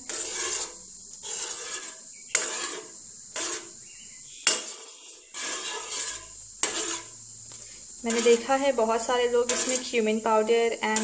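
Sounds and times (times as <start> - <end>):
ladle stirring and scraping pan: 0.0 - 11.0.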